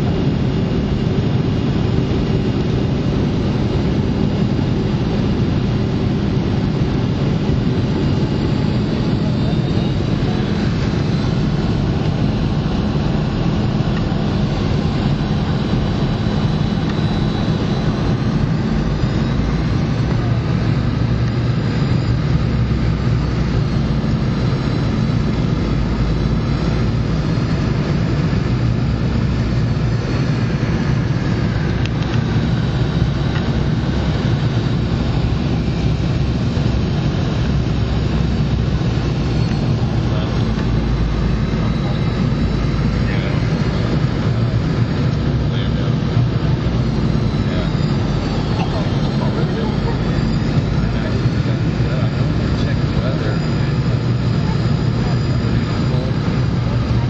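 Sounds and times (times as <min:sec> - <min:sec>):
airflow rumble: 0:00.0 - 0:57.0
jet engines droning: 0:00.0 - 0:57.0.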